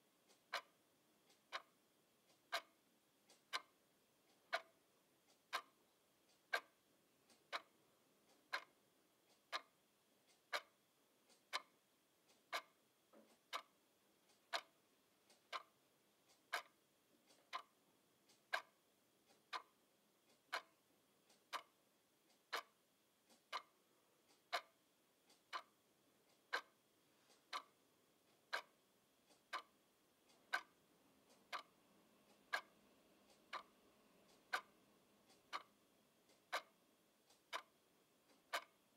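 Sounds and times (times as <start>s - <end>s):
alarm clock ticking: 0.0s - 38.9s.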